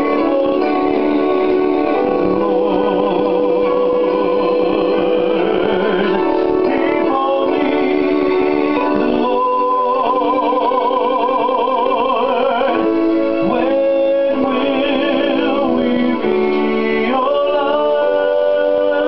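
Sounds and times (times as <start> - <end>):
gospel keyboard chords: 0.0 - 19.0.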